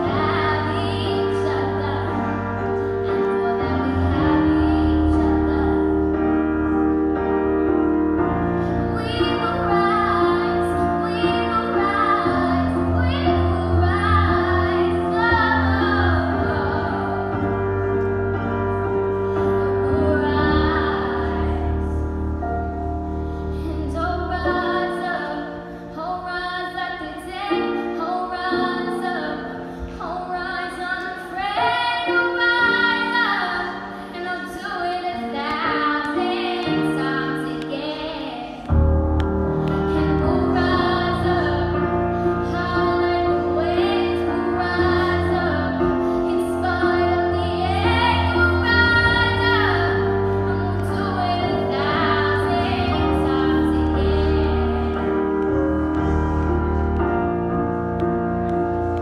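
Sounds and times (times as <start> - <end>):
girl singing into microphone: 0.0 - 6.3, 8.9 - 17.9, 19.4 - 22.1, 23.6 - 56.3
musical accompaniment: 0.0 - 59.0.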